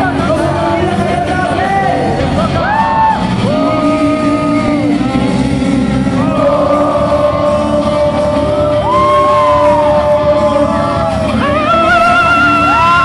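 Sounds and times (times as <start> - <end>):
loud backing music: 0.0 - 13.0
person singing into a microphone: 0.0 - 13.0.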